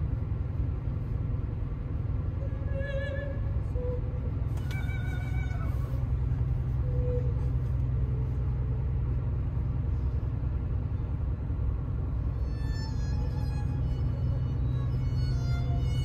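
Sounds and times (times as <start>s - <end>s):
road and tyre rumble: 0.0s - 16.0s.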